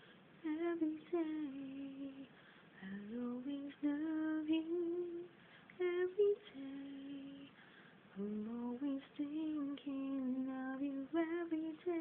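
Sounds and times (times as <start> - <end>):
woman singing unaccompanied: 0.4 - 12.0.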